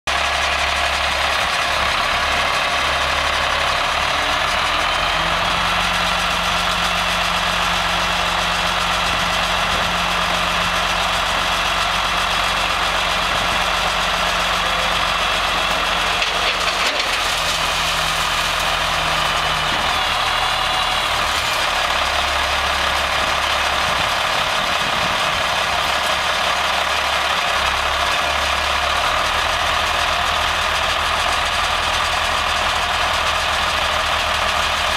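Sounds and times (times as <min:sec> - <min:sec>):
diesel engine knocking clatter: 0:00.1 - 0:34.9.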